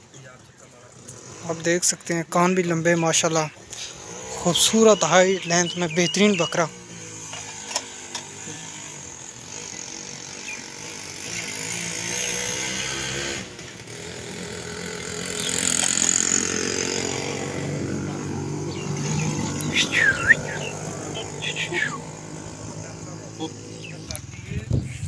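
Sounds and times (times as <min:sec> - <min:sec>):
small engine running: 0:00.9 - 0:02.1, 0:03.1 - 0:24.7.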